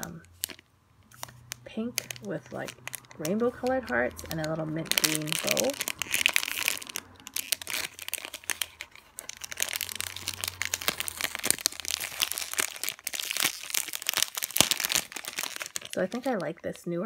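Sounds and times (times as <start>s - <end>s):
plastic bag crinkling: 0.0s - 16.7s.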